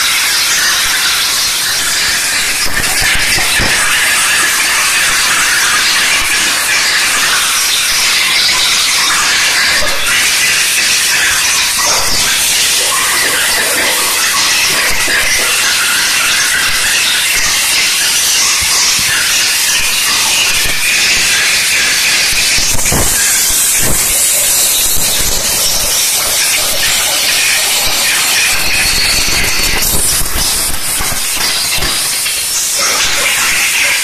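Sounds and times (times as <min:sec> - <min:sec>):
steam jet hissing: 0:00.0 - 0:34.0.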